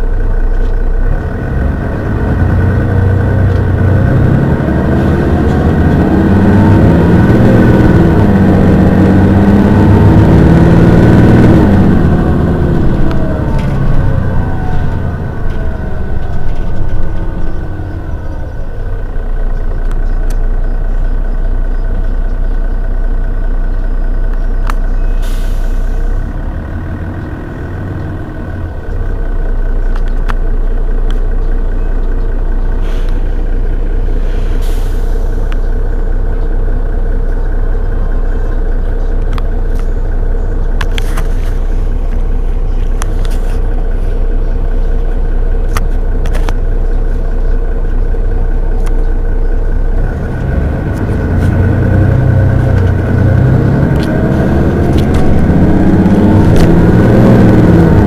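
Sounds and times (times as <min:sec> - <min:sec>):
bus engine idling: 0:00.0 - 0:58.0.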